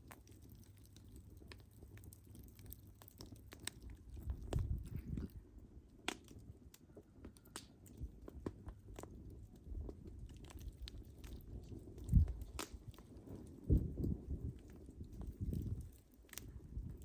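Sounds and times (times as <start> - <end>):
low rumble of flame: 0.0 - 17.0
wood fire crackling and popping: 0.0 - 17.0.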